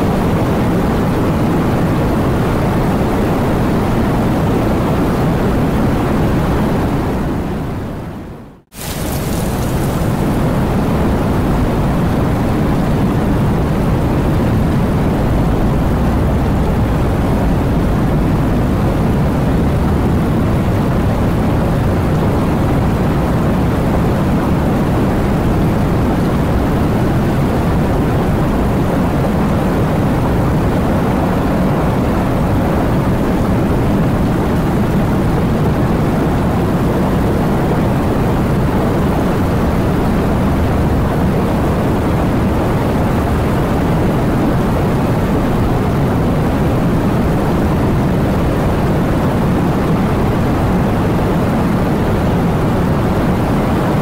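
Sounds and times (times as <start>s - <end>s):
heavy rain: 8.7s - 54.0s.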